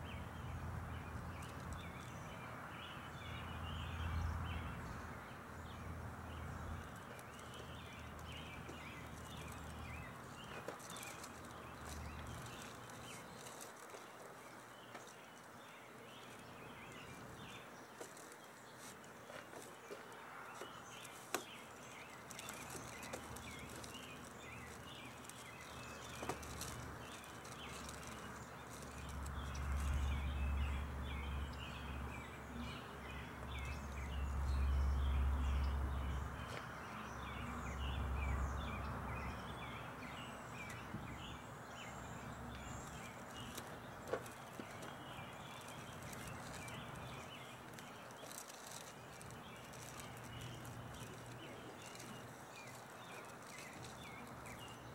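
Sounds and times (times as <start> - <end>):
small bird chirps: 6.4 - 54.9.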